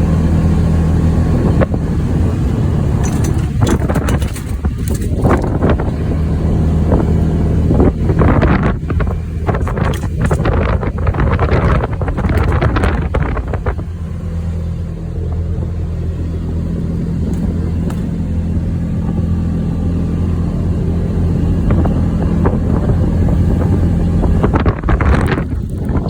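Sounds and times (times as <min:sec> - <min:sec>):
vehicle engine running: 0:00.0 - 0:26.0
wind buffeting microphone: 0:00.0 - 0:26.0.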